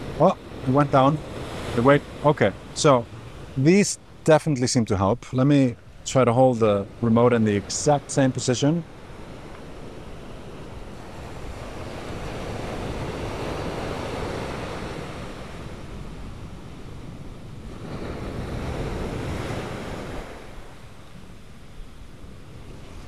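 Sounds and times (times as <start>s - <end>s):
wind on microphone: 0.0s - 4.3s, 6.8s - 23.0s
surf washing onto beach: 0.0s - 23.0s.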